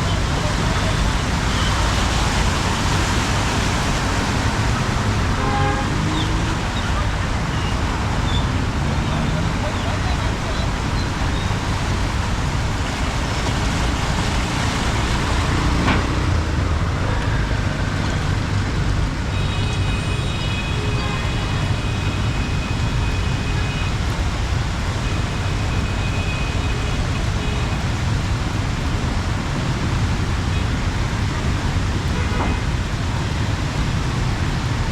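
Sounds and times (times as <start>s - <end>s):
traffic rumble on wet street: 0.0s - 34.9s.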